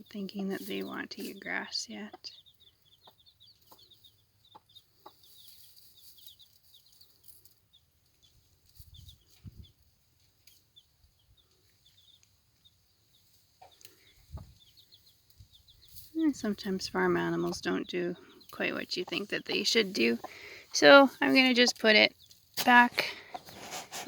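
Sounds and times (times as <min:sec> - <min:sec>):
chicks peeping: 0:00.2 - 0:24.0.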